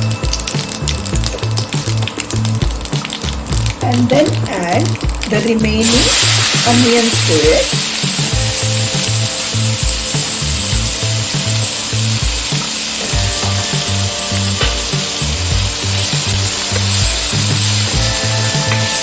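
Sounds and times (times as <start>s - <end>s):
background music with bass line: 0.0s - 19.0s
onions sizzling in oil: 0.0s - 19.0s.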